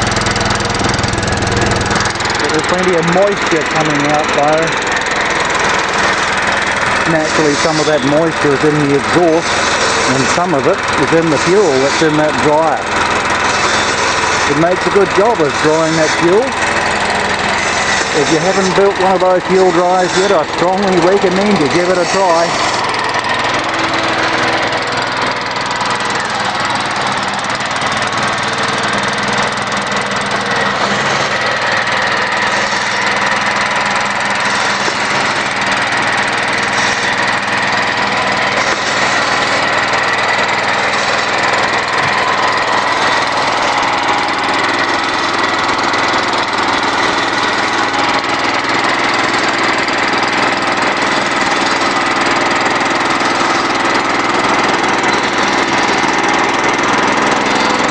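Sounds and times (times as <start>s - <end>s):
generator engine running: 0.0s - 57.9s.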